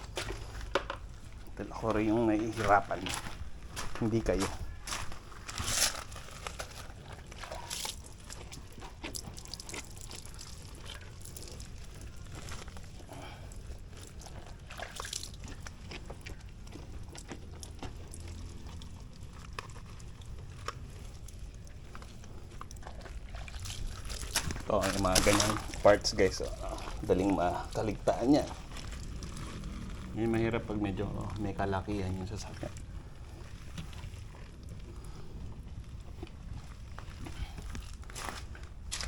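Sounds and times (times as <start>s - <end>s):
water sloshing and trickling: 0.0s - 39.0s.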